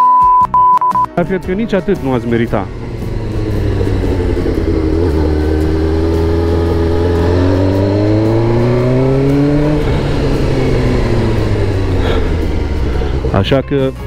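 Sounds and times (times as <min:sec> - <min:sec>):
motorcycle engine revving: 0:01.5 - 0:14.0.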